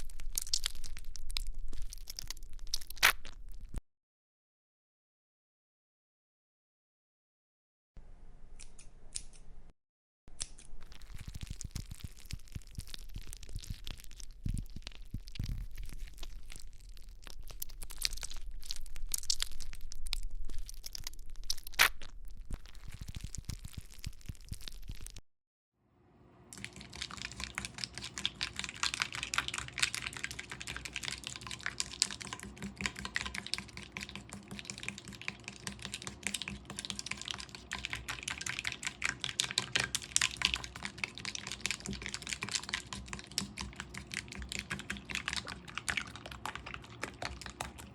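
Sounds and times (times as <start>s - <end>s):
slime squishing with sticky clicks: 0.0s - 3.8s, 10.4s - 25.2s, 26.5s - 47.9s.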